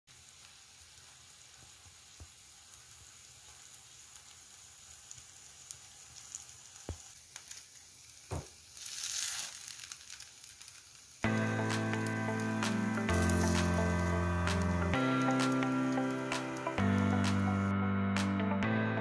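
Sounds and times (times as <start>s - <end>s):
pancakes sizzling in frying pan: 0.1s - 17.1s.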